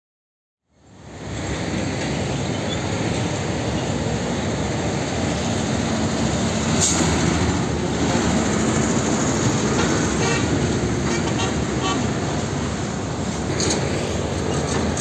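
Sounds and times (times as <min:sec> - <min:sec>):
tyre and road noise: 0:00.7 - 0:15.0
truck engine running: 0:01.0 - 0:15.0.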